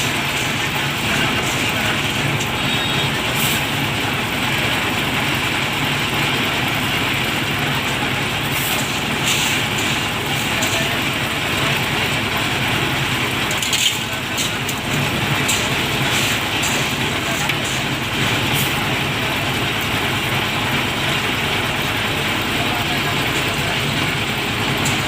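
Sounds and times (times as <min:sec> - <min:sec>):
concrete mixer running: 0:00.0 - 0:25.0.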